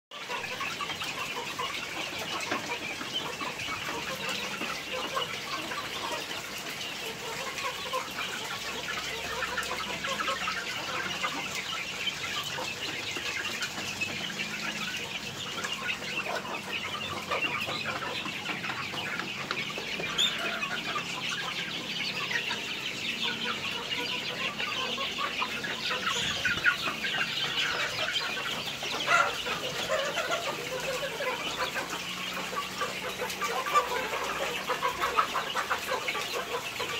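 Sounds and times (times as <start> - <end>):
chickens clucking: 0.1 - 36.9.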